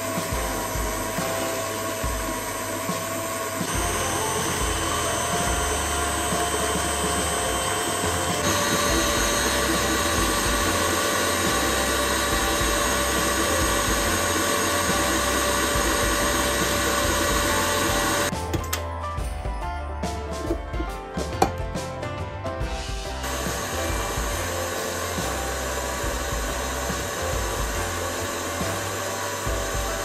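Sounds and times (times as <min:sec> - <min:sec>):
stand mixer motor whining: 0:00.0 - 0:18.4, 0:23.2 - 0:30.0.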